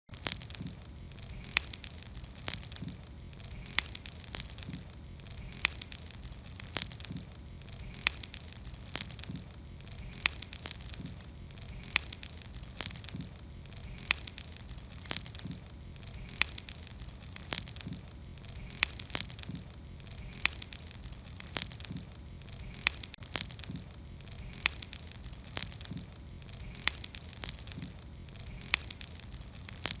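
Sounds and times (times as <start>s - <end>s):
burning wood crackling and popping: 0.1s - 30.0s
campfire rumble and hiss: 0.1s - 30.0s.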